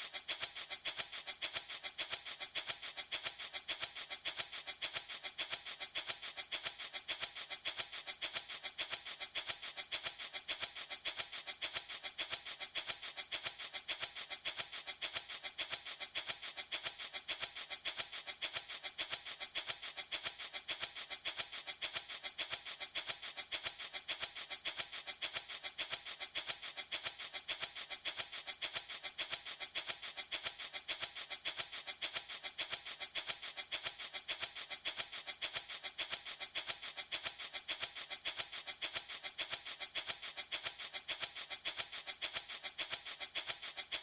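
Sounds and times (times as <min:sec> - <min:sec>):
wooden rattle shaken: 0:00.0 - 0:44.0.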